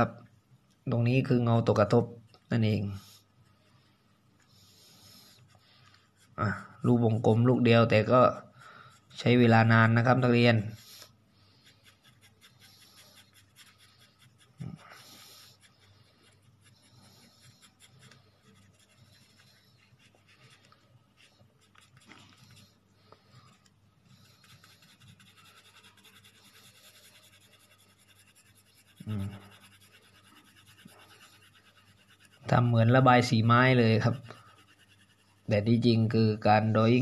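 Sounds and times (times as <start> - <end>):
pencil scratching on paper: 1.1 - 37.0.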